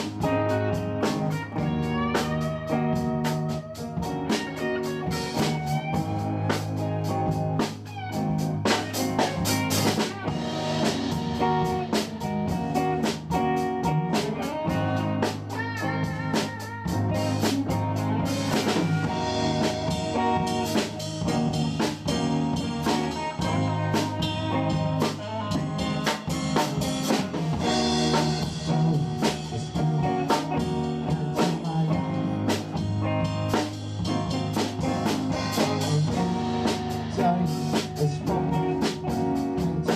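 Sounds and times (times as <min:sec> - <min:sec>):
blues music with guitar and drums: 0:00.0 - 0:39.9.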